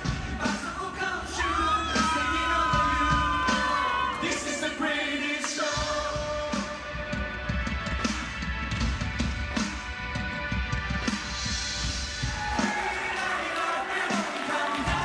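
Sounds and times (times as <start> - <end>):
live pop band playing: 0.0 - 13.4.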